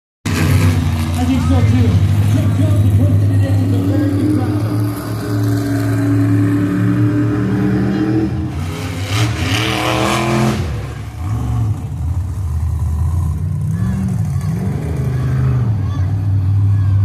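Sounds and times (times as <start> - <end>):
truck engine revving: 0.2 - 17.0.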